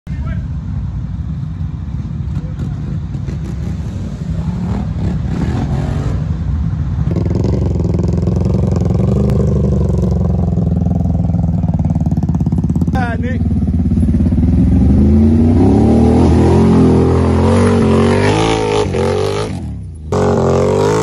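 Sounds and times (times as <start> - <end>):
atv engines revving: 0.1 - 21.0.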